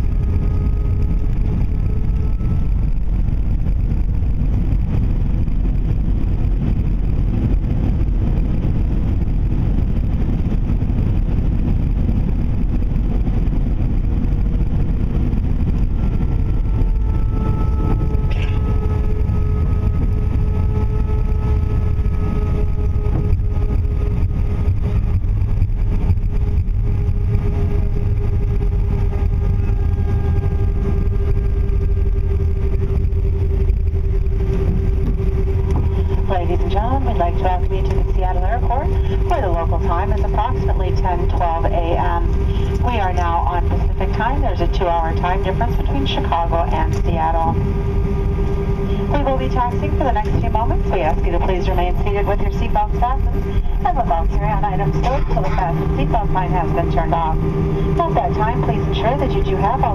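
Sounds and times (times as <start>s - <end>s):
aircraft cabin engine rumble: 0.0s - 59.9s
faint steady engine tones: 0.0s - 59.9s.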